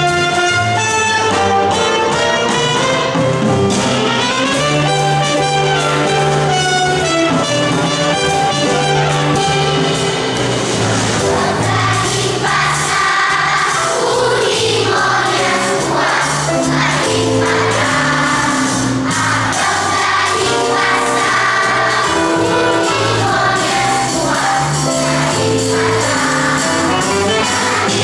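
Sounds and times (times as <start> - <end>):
brass and orchestra music: 0.0 - 28.0.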